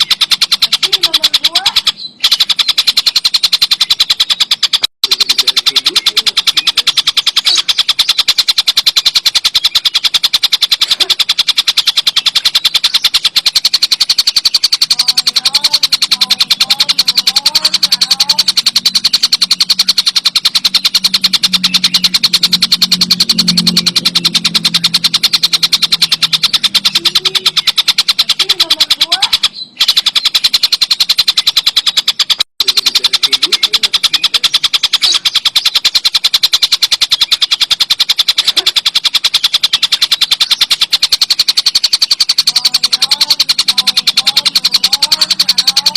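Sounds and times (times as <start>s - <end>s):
kingfisher rattling call: 0.0s - 45.9s.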